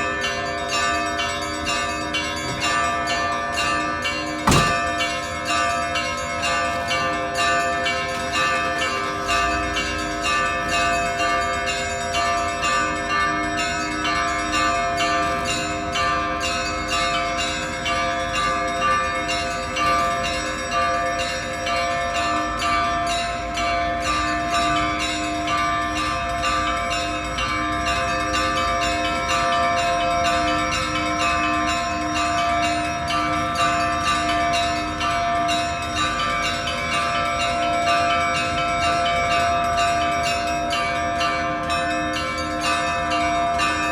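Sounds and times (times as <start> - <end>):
church bells ringing: 0.0 - 43.9.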